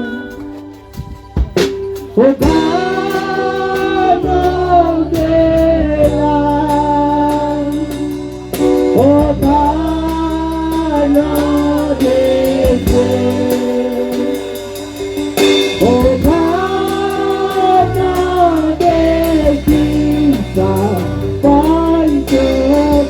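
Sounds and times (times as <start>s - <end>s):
gospel singing over a band: 0.0s - 23.0s.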